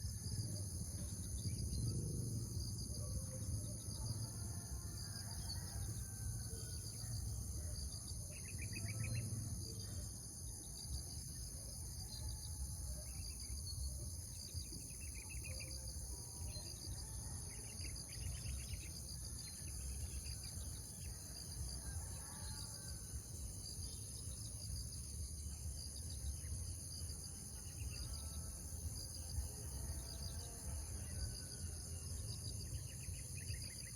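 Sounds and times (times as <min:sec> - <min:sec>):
pulsed insect trills: 0:00.0 - 0:33.9
shrill insect chorus: 0:00.0 - 0:33.9.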